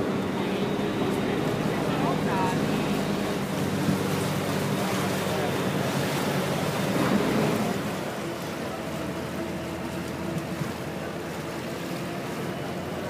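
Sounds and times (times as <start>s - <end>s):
boat engine hum: 0.0s - 13.0s
water washing along hull: 0.0s - 13.0s.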